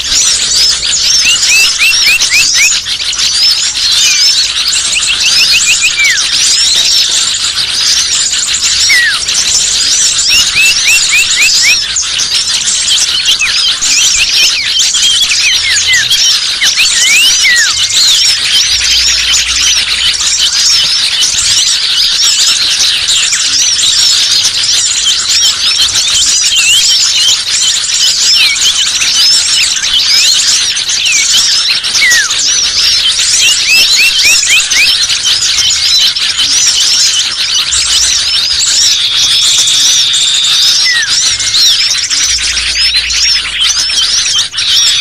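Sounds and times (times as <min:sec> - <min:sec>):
high bird trill: 0:00.0 - 0:45.0
songbirds chirping chorus: 0:00.0 - 0:45.0.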